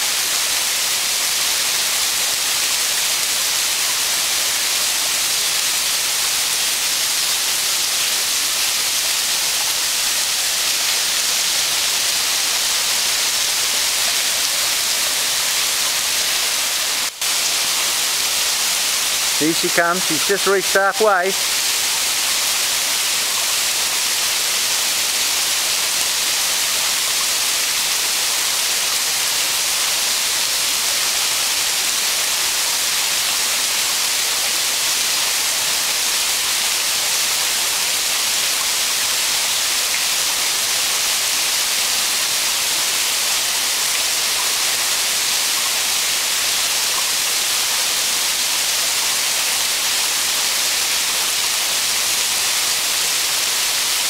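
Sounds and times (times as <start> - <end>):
waterfall hissing: 0.0 - 54.0.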